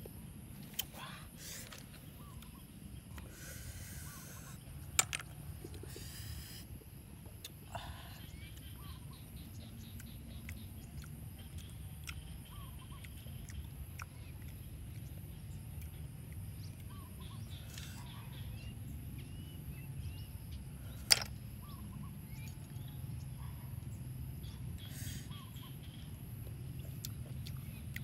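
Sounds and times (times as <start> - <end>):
low steady rumble: 0.0 - 28.0
small birds chirping: 0.6 - 28.0.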